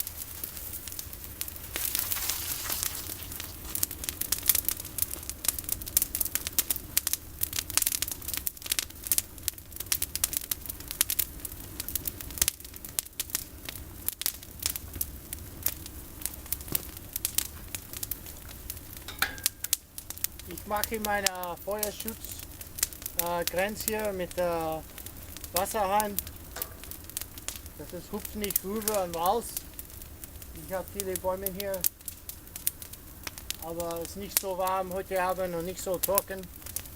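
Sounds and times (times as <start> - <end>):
campfire crackling and snapping: 0.0 - 36.9.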